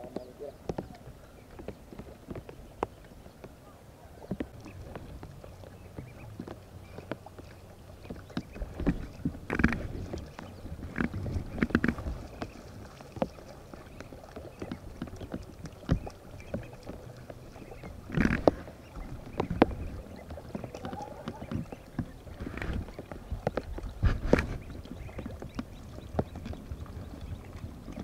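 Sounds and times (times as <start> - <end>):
water splashing: 0.0 - 28.0.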